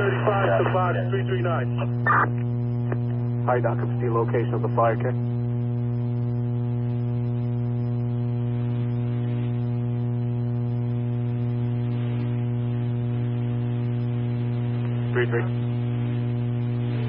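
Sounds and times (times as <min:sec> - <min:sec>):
electrical hum on radio channel: 0:00.0 - 0:17.0.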